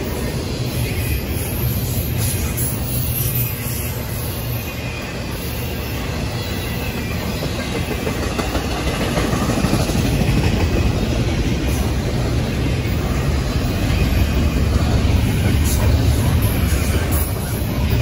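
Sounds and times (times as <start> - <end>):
freight train wheels rumbling on rails: 0.0 - 18.0.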